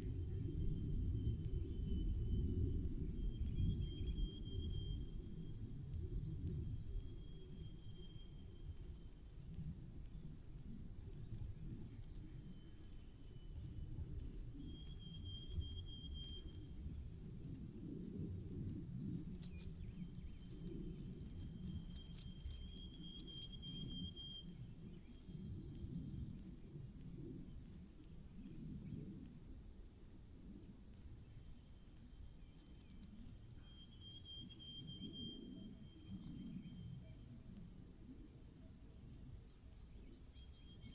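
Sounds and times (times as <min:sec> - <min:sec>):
faint high whine: 0:00.0 - 0:38.3
small bird chirping: 0:00.5 - 0:37.8, 0:39.7 - 0:40.9.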